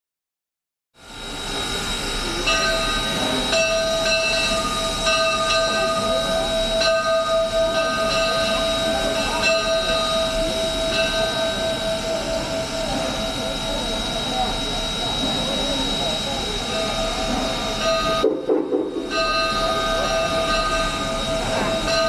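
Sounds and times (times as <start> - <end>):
steam locomotive running: 1.0 - 22.0
steady held tones: 1.3 - 22.0.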